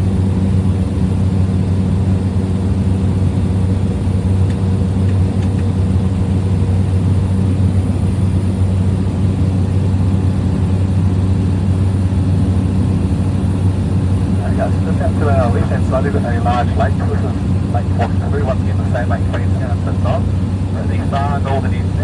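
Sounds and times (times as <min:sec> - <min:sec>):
small plane engine drone: 0:00.0 - 0:22.0.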